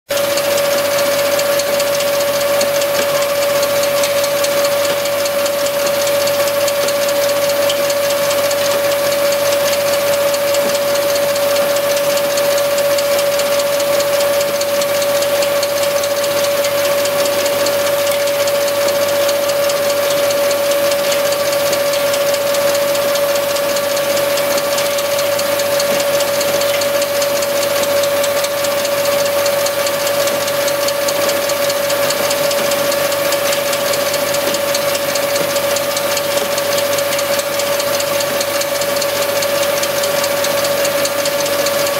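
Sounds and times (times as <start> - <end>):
pellet mill machinery whine: 0.1 - 41.9.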